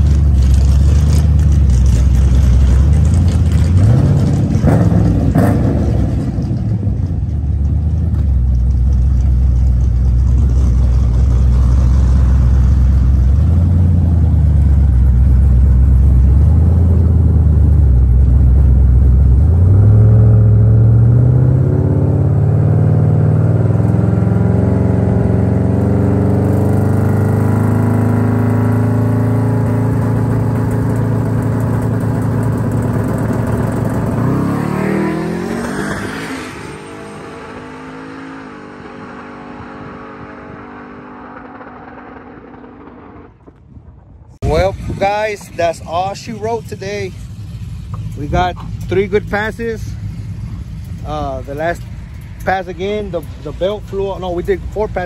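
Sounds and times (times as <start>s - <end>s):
truck engine running: 0.0s - 22.6s, 23.5s - 35.5s, 41.5s - 55.0s.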